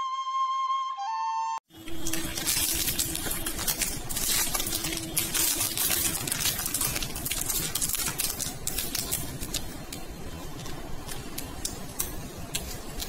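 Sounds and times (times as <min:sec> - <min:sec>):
plastic bag crinkling: 0:01.7 - 0:13.0.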